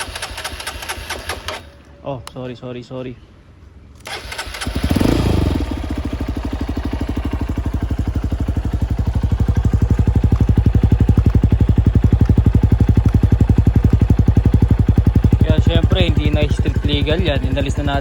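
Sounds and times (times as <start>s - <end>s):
motorcycle engine idling: 0.0s - 1.9s, 4.1s - 18.0s.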